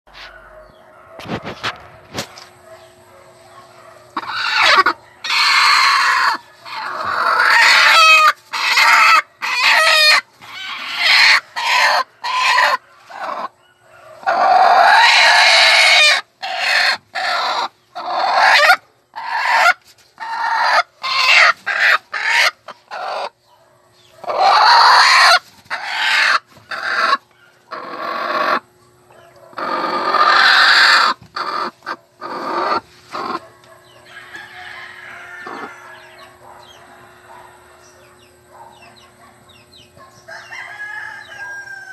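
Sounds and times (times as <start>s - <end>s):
hen clucking and squawking: 3.0s - 23.4s, 24.1s - 41.9s.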